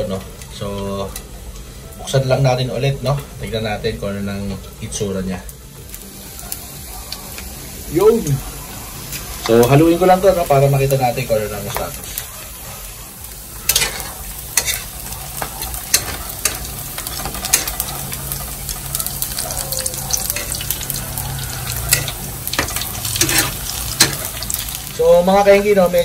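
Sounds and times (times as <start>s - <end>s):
fat sizzling and crackling in oil: 0.0s - 26.0s.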